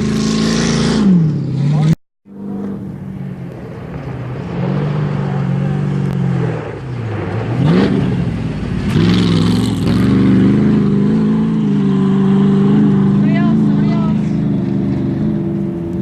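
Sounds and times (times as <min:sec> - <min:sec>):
race vehicle engine revving: 0:00.0 - 0:16.0.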